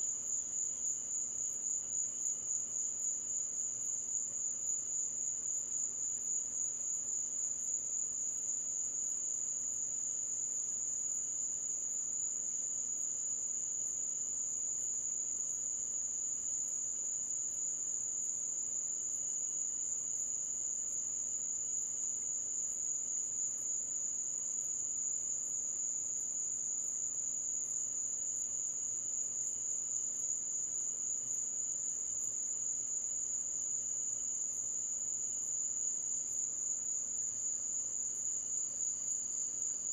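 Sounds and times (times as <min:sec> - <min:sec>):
faint high insect tick: 0:00.0 - 0:39.9.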